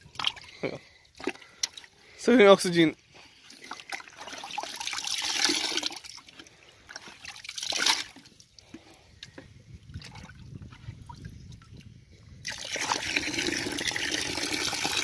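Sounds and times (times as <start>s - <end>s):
water splashing in a plastic bucket: 0.0s - 2.0s, 3.4s - 15.0s.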